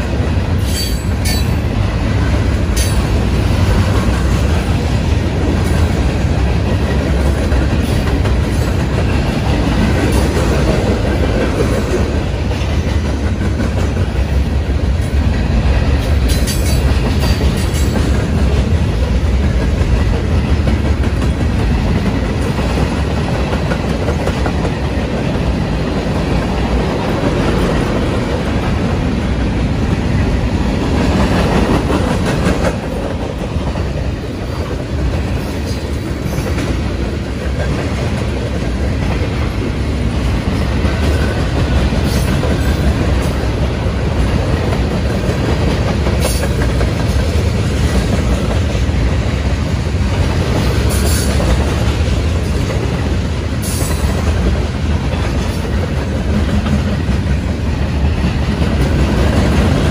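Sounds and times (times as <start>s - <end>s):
clickety-clack over rail joints: 0.0s - 59.9s
train wheels rolling on rails: 0.0s - 59.9s.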